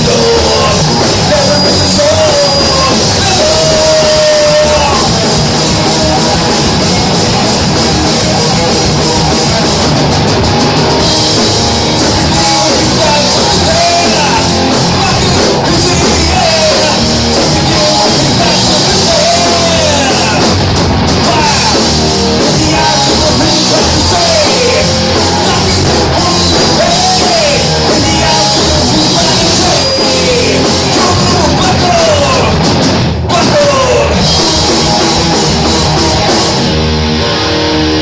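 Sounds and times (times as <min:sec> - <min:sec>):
guitar lead with bent notes: 0:00.0 - 0:38.0
heavy metal band playing: 0:00.0 - 0:38.0.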